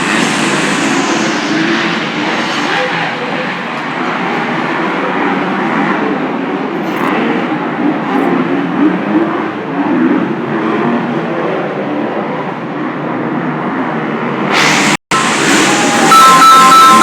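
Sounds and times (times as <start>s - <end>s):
motorcycle engines racing: 0.0s - 14.5s.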